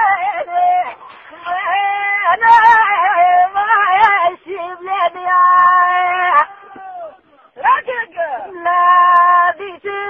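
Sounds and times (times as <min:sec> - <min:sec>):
person singing unaccompanied: 0:00.0 - 0:10.0.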